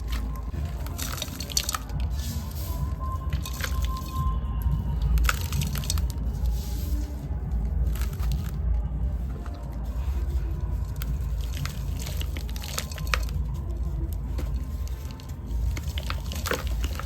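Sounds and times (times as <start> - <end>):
dry sand crumbling and crunching: 0.0 - 17.0.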